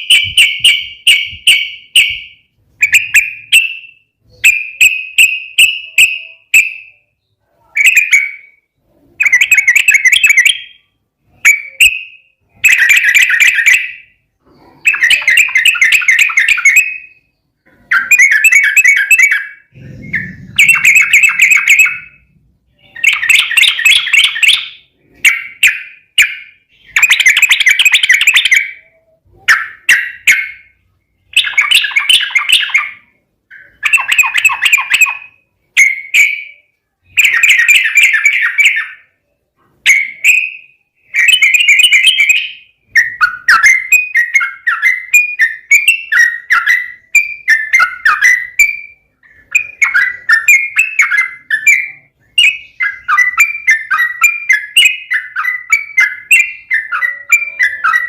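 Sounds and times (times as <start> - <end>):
bulbul chattering song: 0.0 - 58.0.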